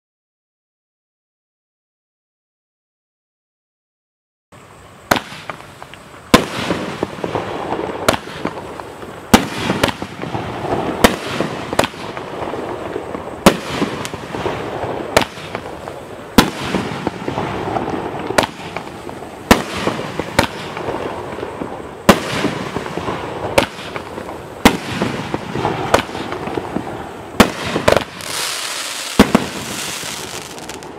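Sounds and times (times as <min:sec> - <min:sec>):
firework crackling: 0:04.6 - 0:30.9
firework launch and burst bangs: 0:05.1 - 0:30.9.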